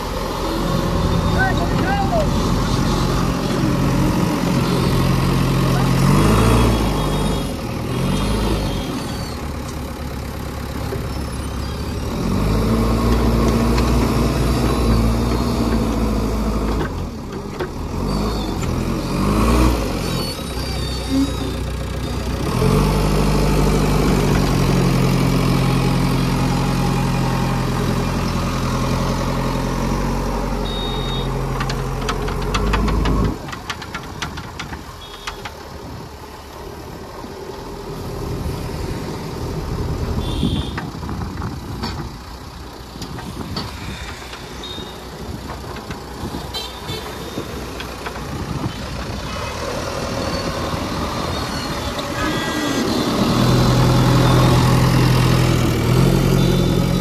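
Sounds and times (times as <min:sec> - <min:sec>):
diesel engine revving: 0:00.0 - 0:34.9, 0:35.8 - 0:57.0.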